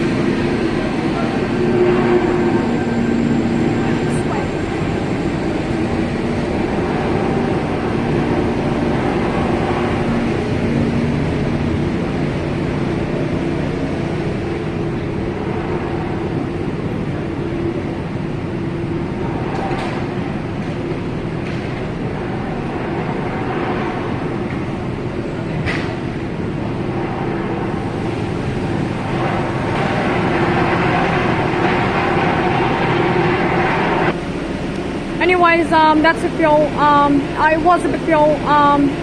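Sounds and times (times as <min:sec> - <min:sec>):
low drone: 0:00.0 - 0:39.0
mechanical rumble: 0:00.0 - 0:39.0.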